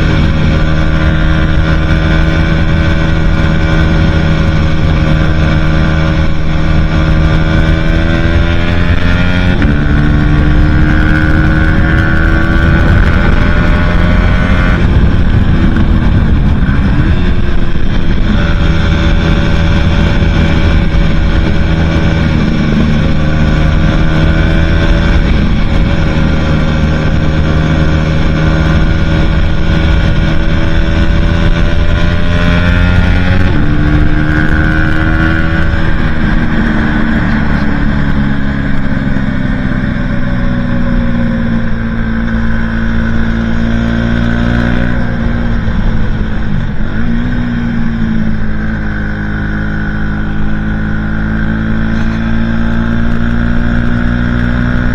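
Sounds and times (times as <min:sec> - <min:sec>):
motorcycle engine running at speed: 0:00.0 - 0:54.9.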